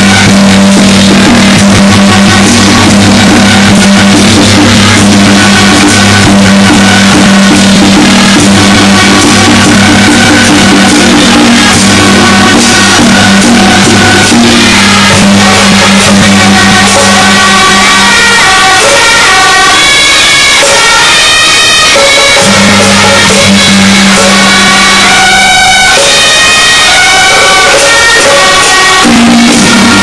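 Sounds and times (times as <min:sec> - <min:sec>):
procession music with drumming: 0:00.0 - 0:30.0.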